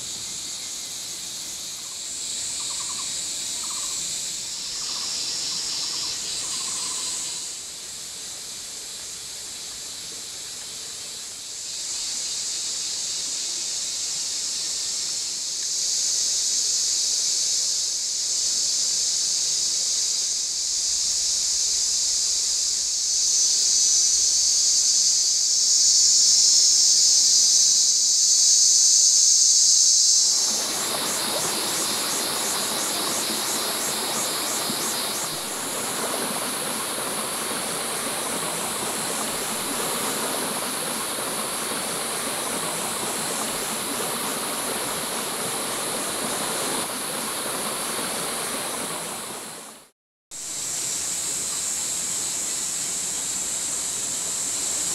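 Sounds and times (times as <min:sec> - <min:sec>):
stream running water: 0:00.0 - 0:27.9, 0:30.0 - 0:54.9
high-pitched insect chorus: 0:00.0 - 0:54.9.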